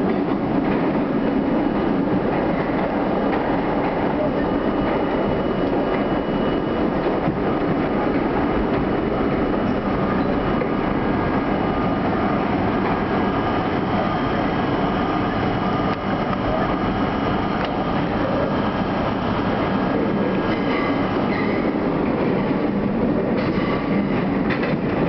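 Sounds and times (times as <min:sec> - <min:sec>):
subway train wheels rumbling: 0:00.0 - 0:25.0.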